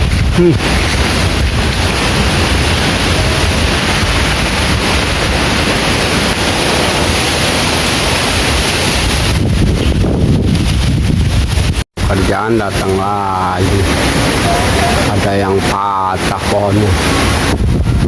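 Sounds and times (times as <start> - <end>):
wind rumble on microphone: 0.0 - 18.0
wind through trees: 0.0 - 18.0.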